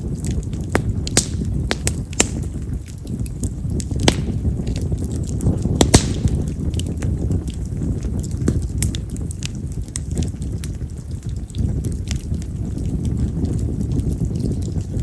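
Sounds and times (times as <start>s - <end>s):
campfire crackling and popping: 0.0s - 15.0s
fire low rumble: 0.0s - 15.0s.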